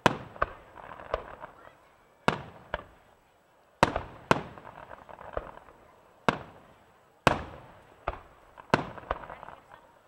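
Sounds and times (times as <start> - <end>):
fireworks bangs with echo: 0.0 - 3.1, 3.8 - 9.9.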